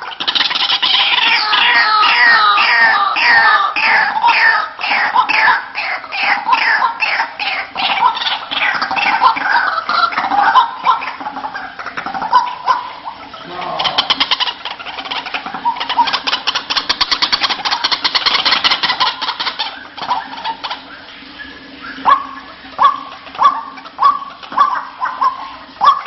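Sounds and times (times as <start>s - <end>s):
waterhen croaking: 0.0s - 26.0s
waterhen rattling call: 0.0s - 26.0s.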